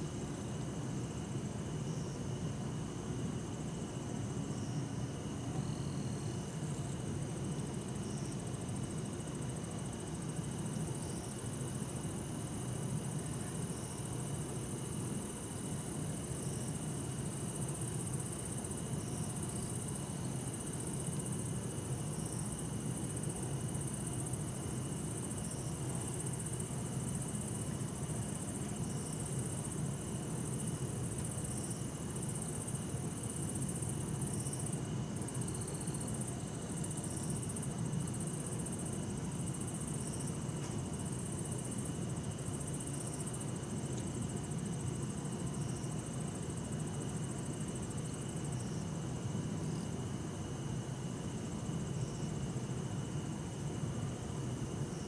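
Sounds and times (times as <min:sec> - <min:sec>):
night insects chirping and trilling: 0:00.0 - 0:55.0.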